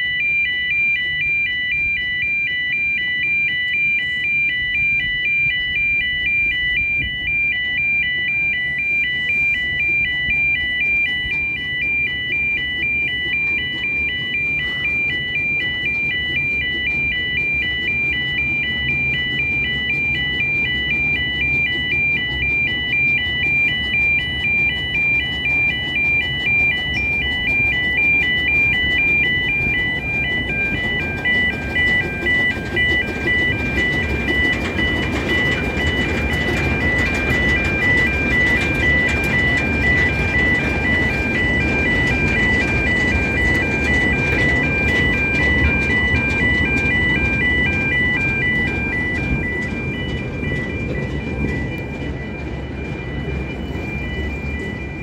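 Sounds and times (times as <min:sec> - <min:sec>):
level-crossing alarm two-tone warble: 0:00.0 - 0:55.0.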